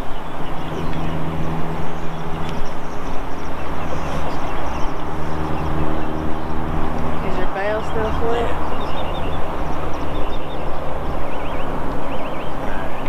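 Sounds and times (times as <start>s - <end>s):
low motor hum: 0.0s - 13.0s
wind noise: 0.0s - 13.0s.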